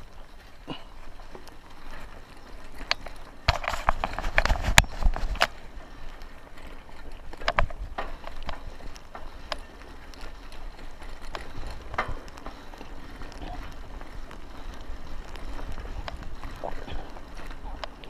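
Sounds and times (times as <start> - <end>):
bicycle frame clicks and knocks: 0.0 - 18.0
bicycle rattling over dirt: 0.0 - 18.0
wind rumble on microphone: 1.8 - 18.0.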